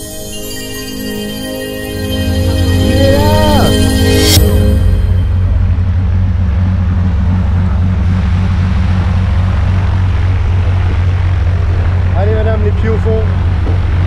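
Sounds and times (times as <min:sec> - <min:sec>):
propeller plane engine drone: 0:00.0 - 0:14.0.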